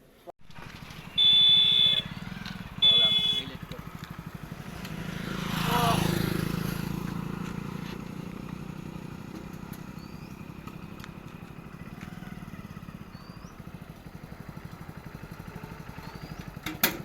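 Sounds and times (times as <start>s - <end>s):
small engine idling: 0.4s - 17.0s.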